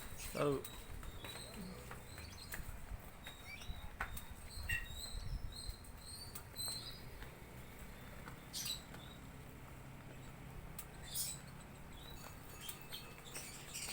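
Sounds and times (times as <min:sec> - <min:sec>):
songbird chirping: 0:00.0 - 0:13.9.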